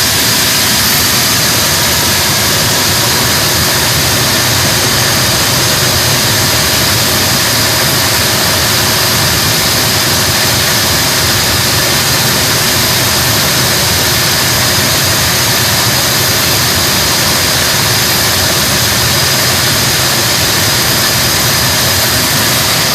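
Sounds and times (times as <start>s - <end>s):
engine running with high whine: 0.0s - 22.9s.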